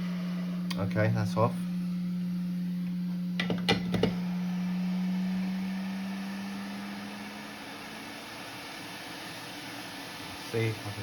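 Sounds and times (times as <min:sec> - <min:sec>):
hot air station humming: 0:00.0 - 0:11.0.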